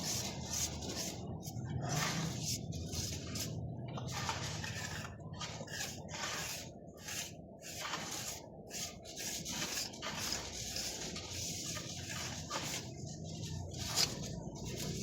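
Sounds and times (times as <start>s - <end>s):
scraping on a hard surface: 0.0s - 15.0s.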